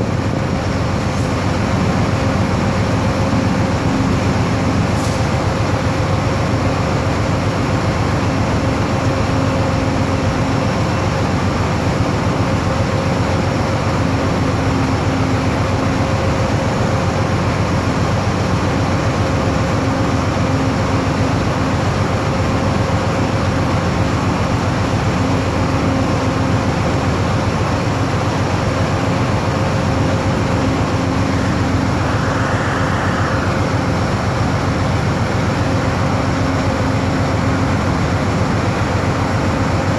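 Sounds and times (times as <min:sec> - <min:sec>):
train mechanical hum: 0:00.0 - 0:39.9.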